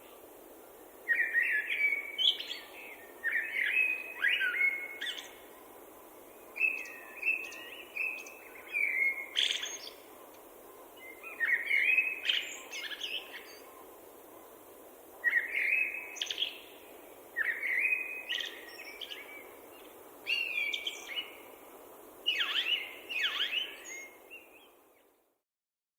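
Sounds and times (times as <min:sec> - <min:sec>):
songbird singing: 0:00.0 - 0:25.2
steady low hiss: 0:00.0 - 0:25.4.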